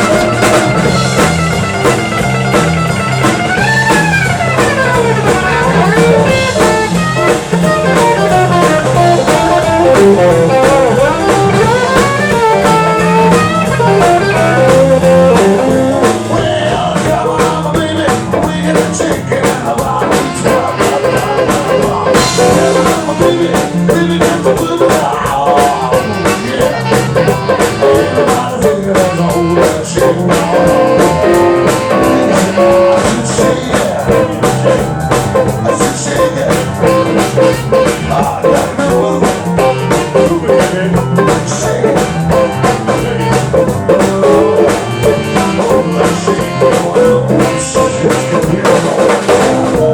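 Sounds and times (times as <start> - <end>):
live blues band playing: 0.0 - 49.9.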